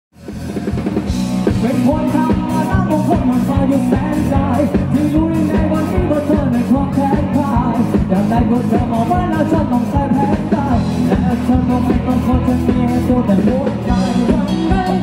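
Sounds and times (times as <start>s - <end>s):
electric guitar: 0.2s - 15.0s
steady drum beat: 0.2s - 15.0s
person singing: 1.4s - 15.0s.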